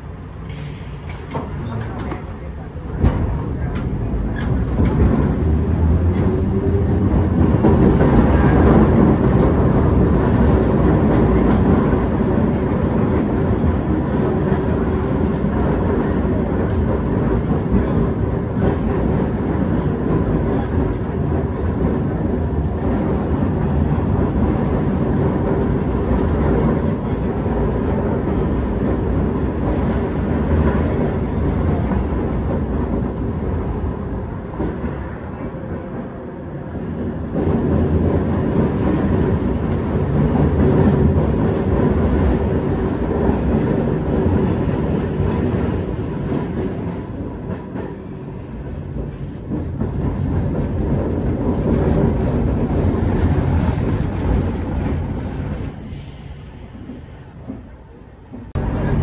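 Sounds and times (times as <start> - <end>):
streetcar wheels rumbling on rail: 0.0 - 59.0.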